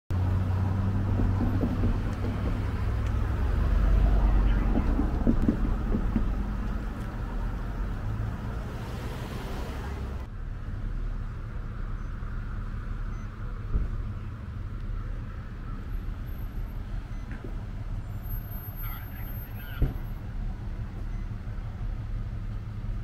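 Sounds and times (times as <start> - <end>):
road noise: 0.1 - 23.0
vehicle engines humming: 0.1 - 23.0.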